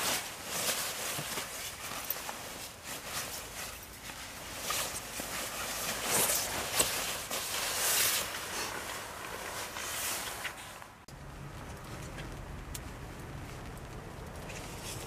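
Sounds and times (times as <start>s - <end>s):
nylon sleeping bags rustling: 0.0s - 15.0s.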